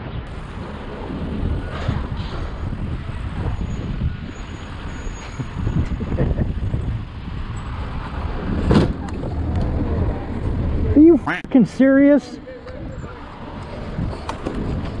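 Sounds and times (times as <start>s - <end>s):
traffic: 0.0s - 15.0s
wind on microphone: 0.3s - 11.0s, 12.7s - 15.0s.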